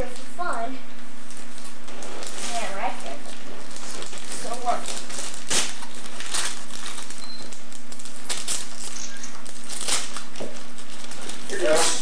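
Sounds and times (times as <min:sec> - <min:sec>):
wrapping paper tearing: 0:01.2 - 0:12.0.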